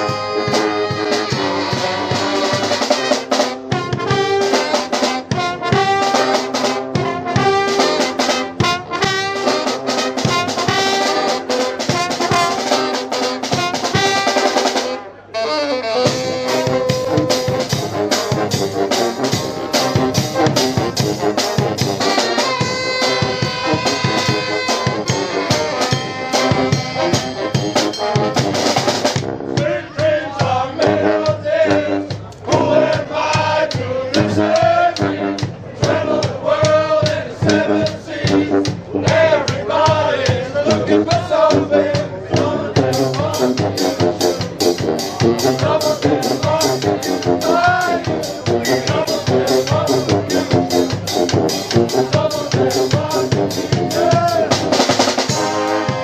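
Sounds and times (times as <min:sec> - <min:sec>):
drum kit: 0:00.0 - 0:15.0, 0:15.9 - 0:56.0
brass band playing: 0:00.0 - 0:56.0.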